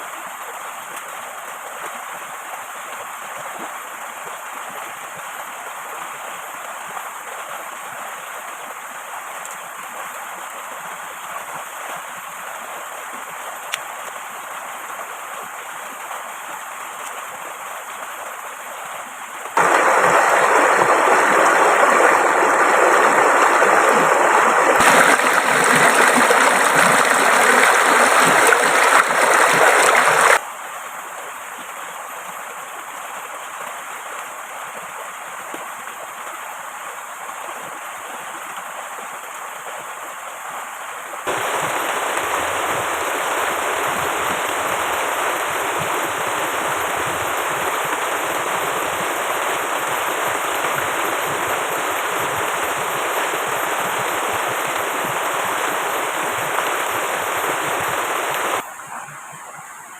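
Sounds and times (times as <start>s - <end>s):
flowing river water: 0.0s - 59.9s.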